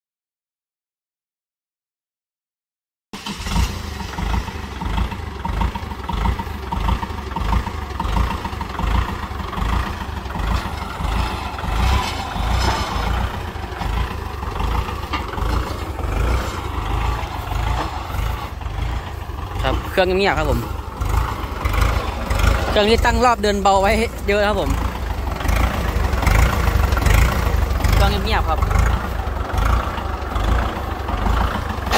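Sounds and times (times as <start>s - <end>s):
tractor diesel engine idling: 3.2s - 31.9s.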